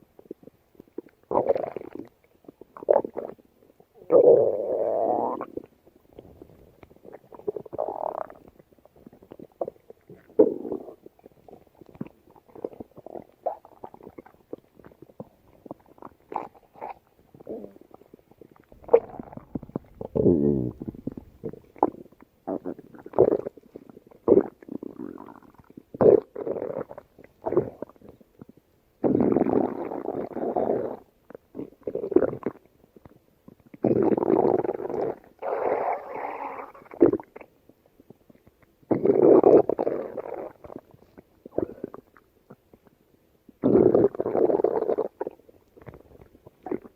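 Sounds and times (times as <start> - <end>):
stomach growling and gurgling: 0.0 - 46.9.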